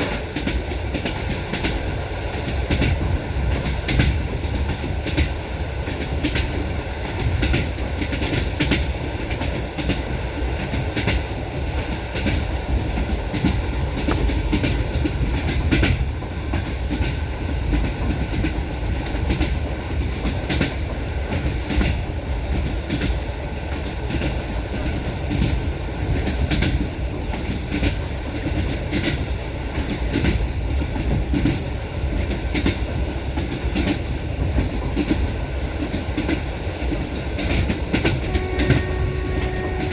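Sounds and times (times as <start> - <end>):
train wheels clattering over rail joints: 0.0 - 39.9.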